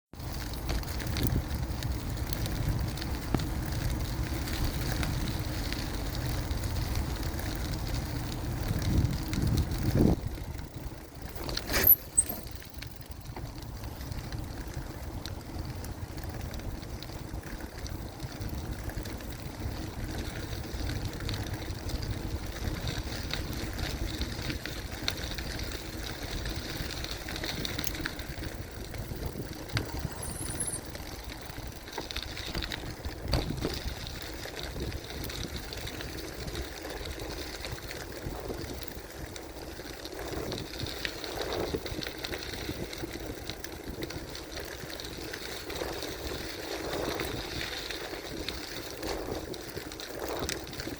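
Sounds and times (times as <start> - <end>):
bicycle tyres rumbling on trail: 0.1 - 50.9
wind on microphone: 6.6 - 50.9.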